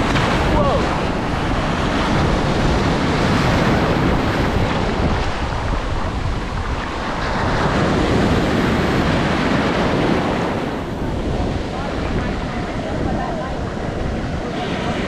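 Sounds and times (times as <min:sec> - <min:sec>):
surf rushing in shallows: 0:00.0 - 0:15.0
wind buffeting microphone: 0:00.0 - 0:15.0.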